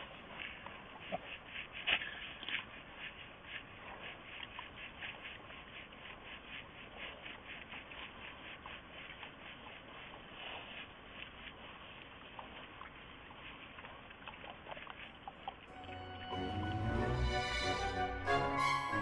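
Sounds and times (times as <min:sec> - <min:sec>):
wild boars crunching food: 0:00.0 - 0:16.0.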